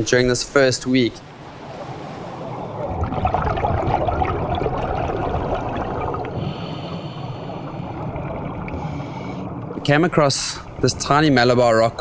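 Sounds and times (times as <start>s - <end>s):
underwater rushing water: 0.0s - 12.0s
faint gurgle: 1.8s - 12.0s.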